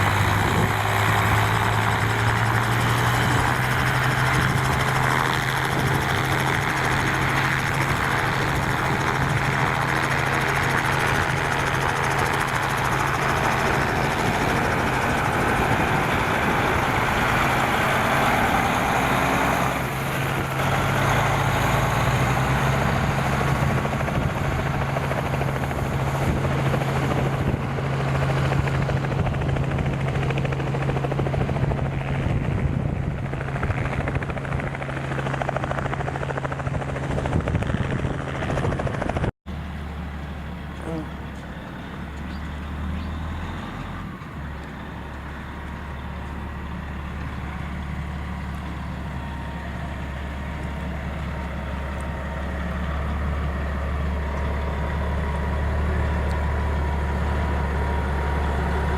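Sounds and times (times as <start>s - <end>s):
diesel truck engine droning: 0.0s - 31.4s, 39.0s - 58.9s.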